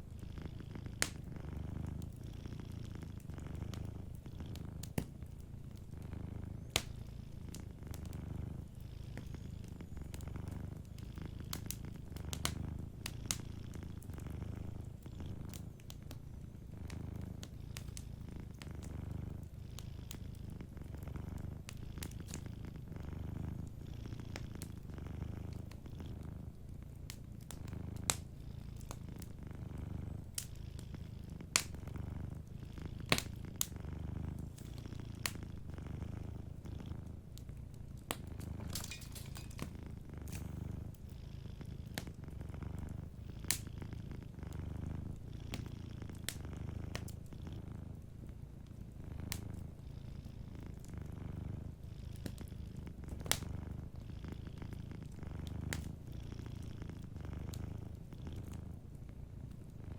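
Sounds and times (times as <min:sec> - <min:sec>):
wood fire crackling: 0:00.0 - 0:59.8
cat purring: 0:00.0 - 0:59.9.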